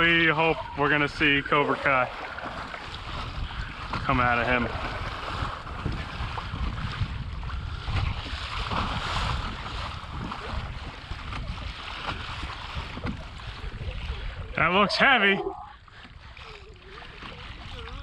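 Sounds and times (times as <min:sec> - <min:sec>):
water splashing along kayak hull: 0:00.0 - 0:18.0
wind buffeting microphone: 0:00.0 - 0:18.0.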